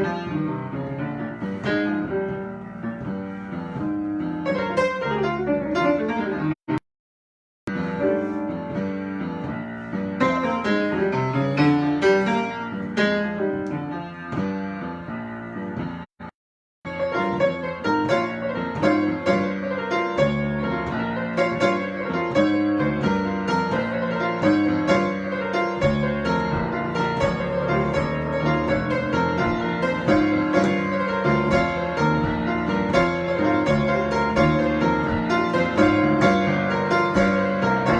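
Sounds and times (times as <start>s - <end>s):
solo piano improvisation: 0.0s - 6.6s, 7.7s - 16.1s, 16.9s - 37.9s.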